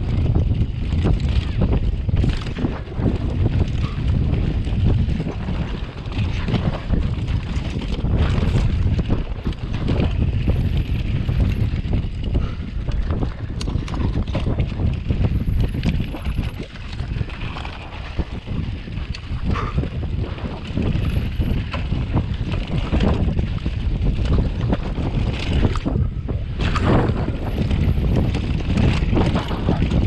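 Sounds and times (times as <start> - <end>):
bike clicks and knocks: 0.0 - 30.0
tyres rolling over dirt and rock: 0.0 - 30.0
wind buffeting microphone: 0.0 - 30.0.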